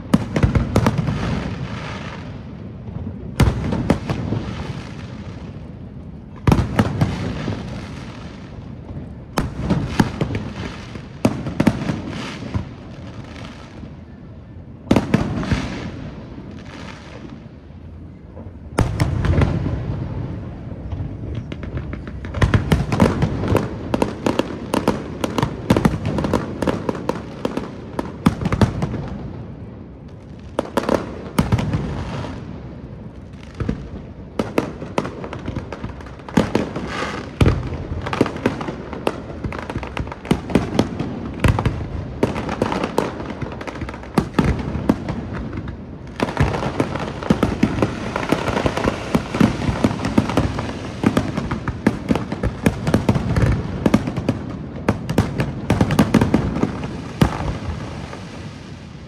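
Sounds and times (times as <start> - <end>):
fireworks bursts and bangs: 0.0 - 59.0
fireworks crackling: 0.0 - 59.0.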